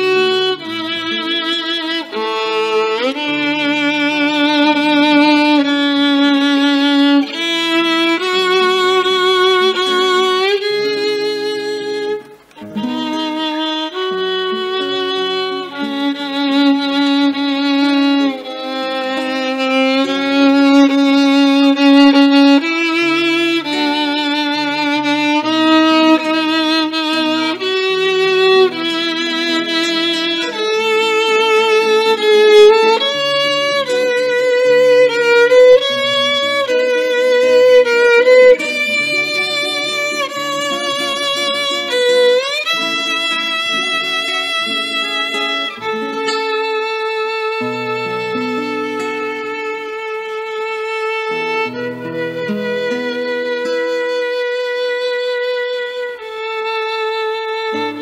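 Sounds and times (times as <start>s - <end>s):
plucked acoustic guitar: 0.0s - 58.0s
violin playing slow melody: 0.0s - 58.0s.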